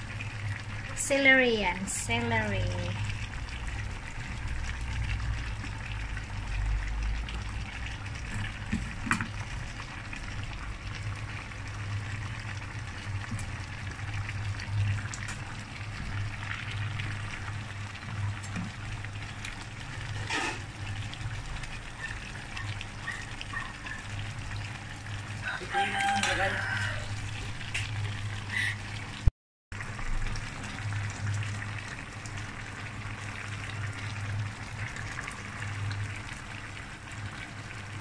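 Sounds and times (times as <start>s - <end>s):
sauce simmering in a pan: 0.0s - 38.0s.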